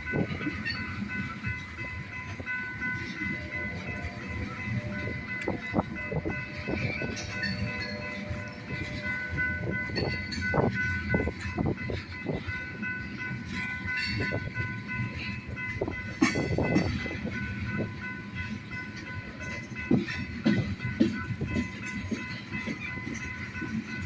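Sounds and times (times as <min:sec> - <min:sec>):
high ringing tones: 0:00.0 - 0:24.0
train cars rumbling and clattering: 0:00.0 - 0:24.0.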